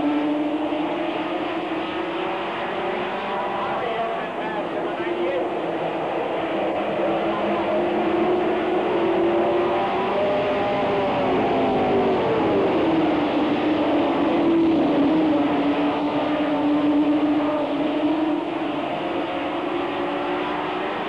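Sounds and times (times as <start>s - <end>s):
race car engines at full throttle: 0.0s - 21.0s.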